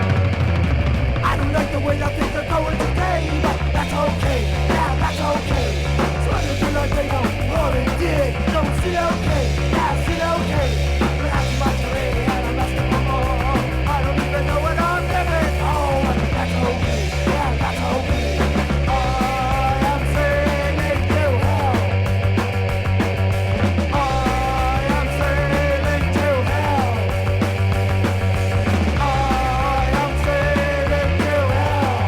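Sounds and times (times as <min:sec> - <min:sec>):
punk rock band playing: 0:00.0 - 0:32.0.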